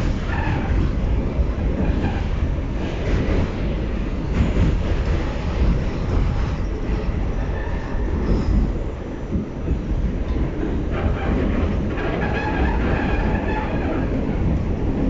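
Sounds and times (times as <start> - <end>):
subway train wheels rumbling on rails: 0.0 - 15.0.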